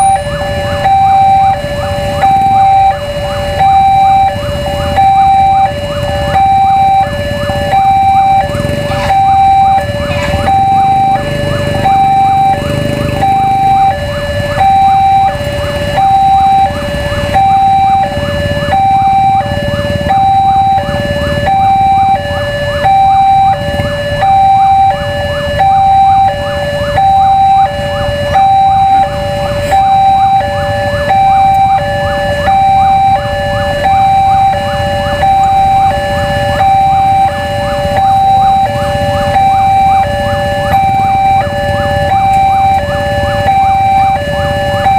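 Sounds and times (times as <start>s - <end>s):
two-tone crossing alarm chime: 0.0s - 44.9s.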